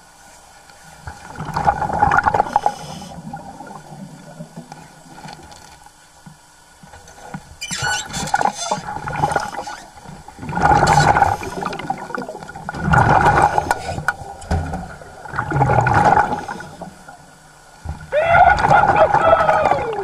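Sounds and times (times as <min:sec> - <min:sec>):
muffled underwater churning water: 0:00.0 - 0:20.0.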